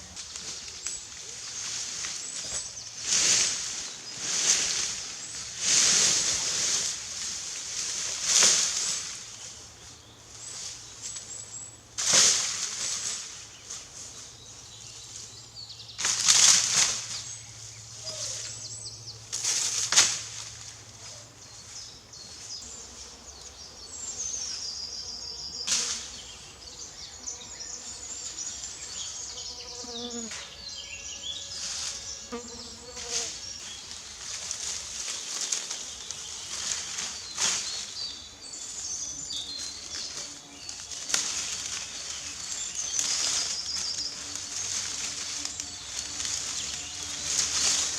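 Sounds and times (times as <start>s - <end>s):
undergrowth swishing being cut: 0.0s - 9.6s, 10.3s - 23.2s, 25.6s - 47.9s.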